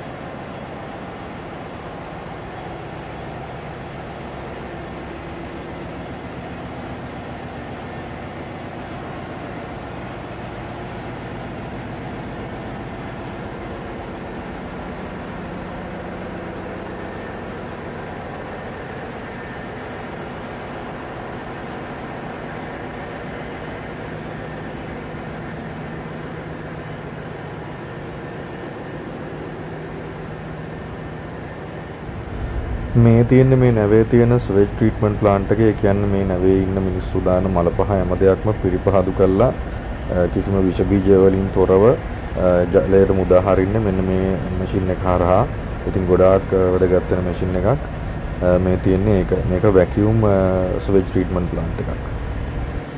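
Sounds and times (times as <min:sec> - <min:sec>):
engine room machinery drone: 0:00.0 - 0:52.9
low hum: 0:04.3 - 0:52.9.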